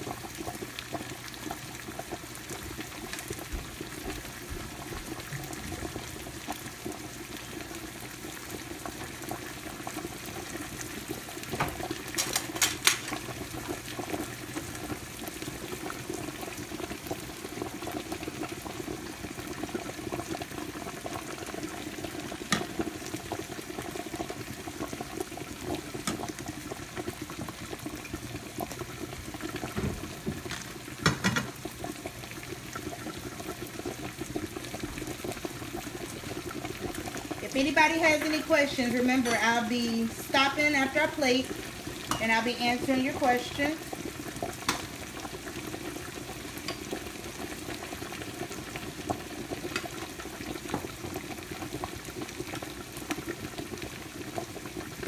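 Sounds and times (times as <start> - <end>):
sauce simmering and bubbling: 0.0 - 55.0.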